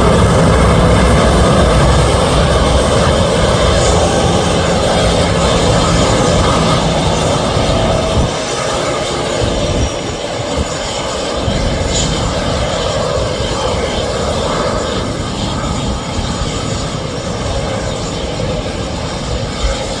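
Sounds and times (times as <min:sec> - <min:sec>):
jet engines at taxi power: 0:00.0 - 0:20.0.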